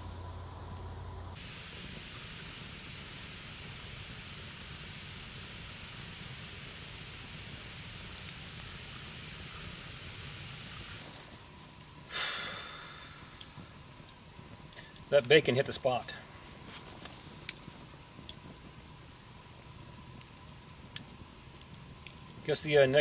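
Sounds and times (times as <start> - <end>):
wood fire hissing: 0.0 - 23.0.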